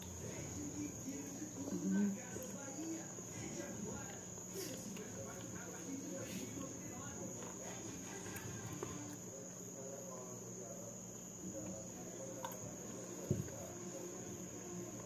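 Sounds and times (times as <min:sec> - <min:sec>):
person eating by hand: 0:00.0 - 0:10.0, 0:11.0 - 0:15.0.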